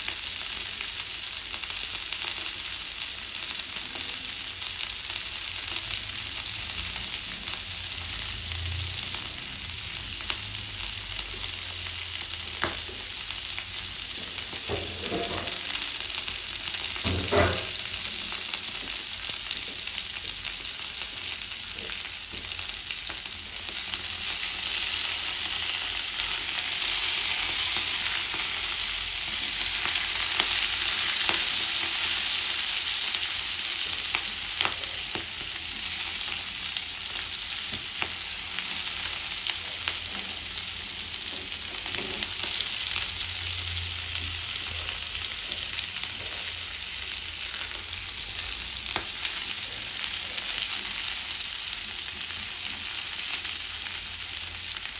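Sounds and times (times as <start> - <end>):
vegetables sizzling in frying pan: 0.0 - 54.9.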